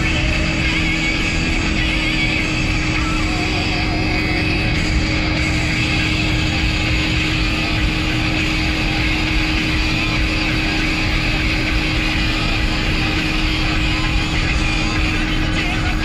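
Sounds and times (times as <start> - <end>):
vehicle road noise hum: 0.0 - 16.0.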